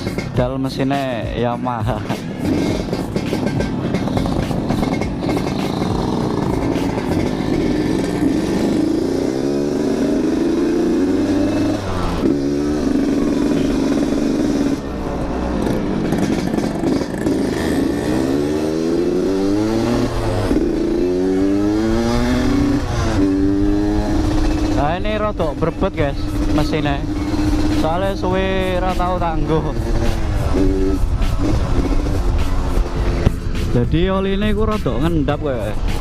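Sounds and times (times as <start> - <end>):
motorcycle engine accelerating: 1.2 - 36.0.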